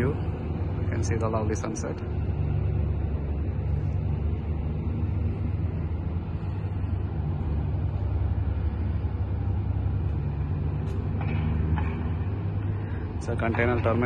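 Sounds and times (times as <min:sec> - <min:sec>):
ship engines rumbling: 0:00.0 - 0:14.0.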